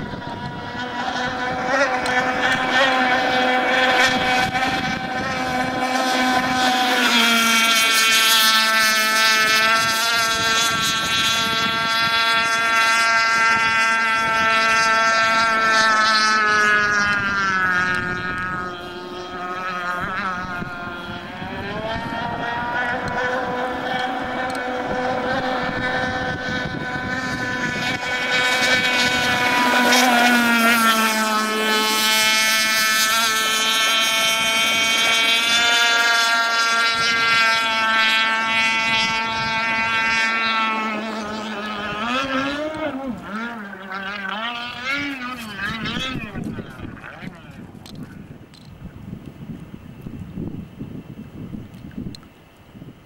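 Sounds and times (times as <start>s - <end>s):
model boat engine whine: 0.0s - 53.0s.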